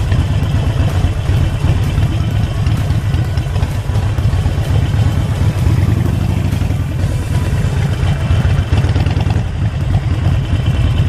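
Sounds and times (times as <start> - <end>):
motorcycle engine pulsing: 0.0 - 11.0.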